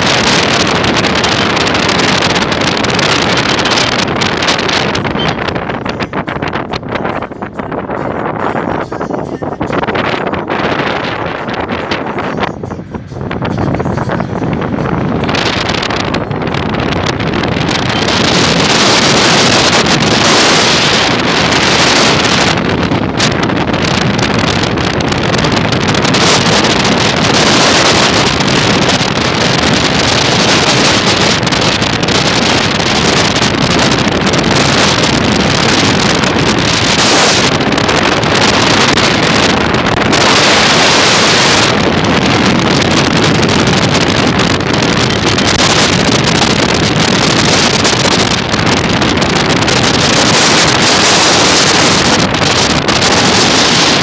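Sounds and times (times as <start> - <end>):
vehicle engine and road noise: 0.0 - 54.0
wind rushing over microphone: 0.0 - 54.0.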